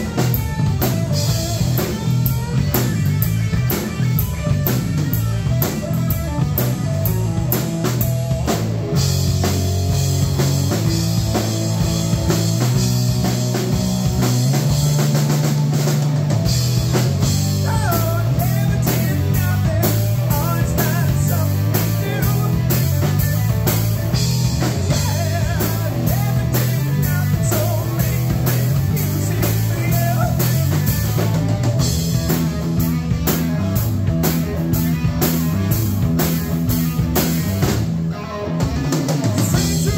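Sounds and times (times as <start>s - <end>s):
bending lead guitar notes: 0.0s - 39.9s
distorted electric guitar: 0.0s - 39.9s
drum kit beat: 0.0s - 39.9s
electric bass: 0.0s - 39.9s.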